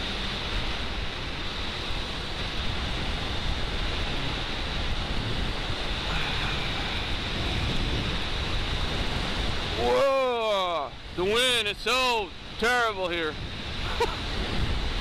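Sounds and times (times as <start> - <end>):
motorcycle road and engine noise: 0.0 - 15.0
wind buffeting microphone: 0.0 - 15.0.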